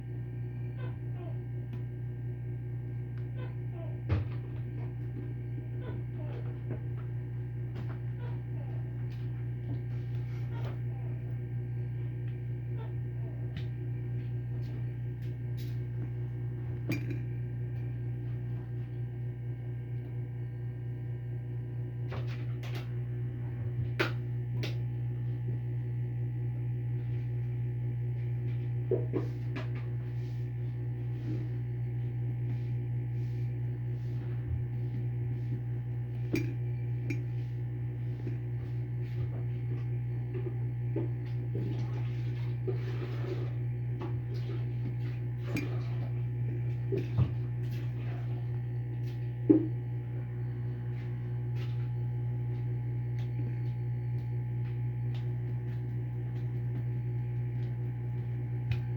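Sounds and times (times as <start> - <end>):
low hum with sustained tones: 0.0 - 58.9.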